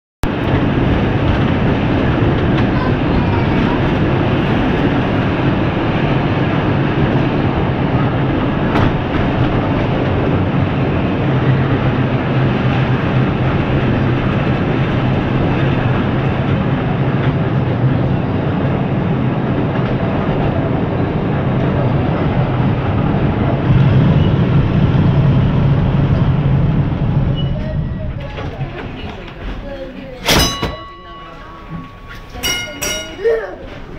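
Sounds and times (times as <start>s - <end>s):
tram wheels rumbling and rattling: 0.2s - 33.9s.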